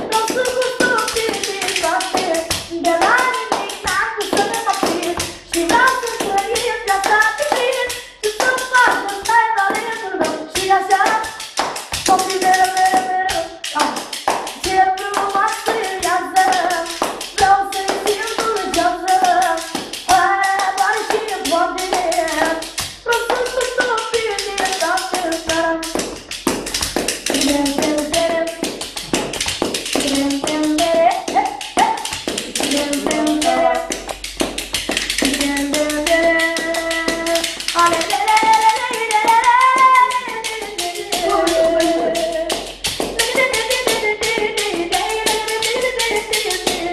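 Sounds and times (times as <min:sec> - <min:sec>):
boy singing: 0:00.0 - 0:46.9
hand claps: 0:00.0 - 0:46.9.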